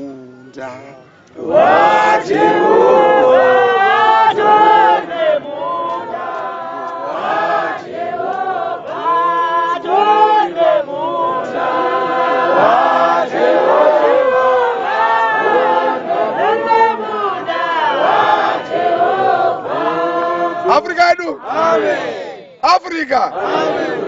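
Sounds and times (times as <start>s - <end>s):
congregation singing unaccompanied: 0.0s - 24.0s.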